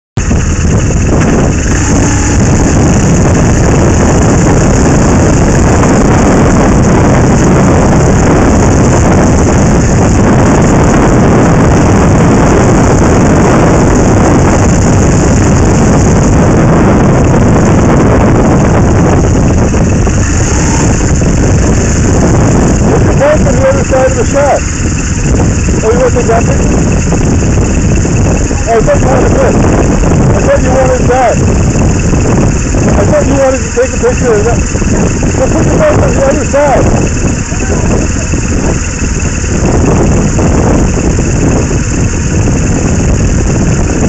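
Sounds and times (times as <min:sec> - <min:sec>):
motorcycle engine running: 0:00.2 - 0:44.0
wind rumble on microphone: 0:00.2 - 0:44.0.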